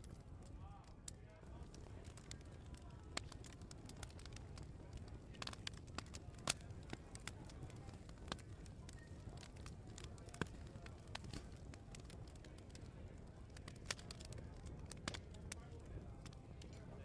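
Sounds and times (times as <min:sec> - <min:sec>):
low steady background murmur: 0:00.0 - 0:17.0
wood fire crackling: 0:00.0 - 0:17.0.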